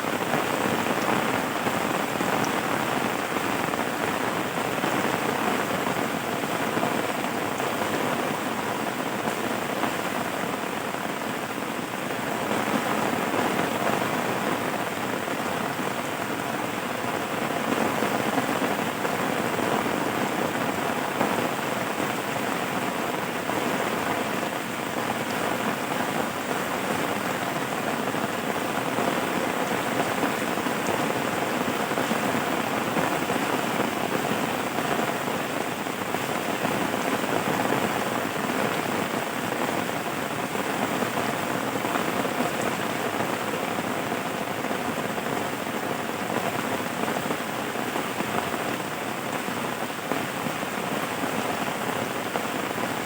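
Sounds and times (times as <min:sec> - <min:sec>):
rain pattering on surface: 0:00.0 - 0:53.0.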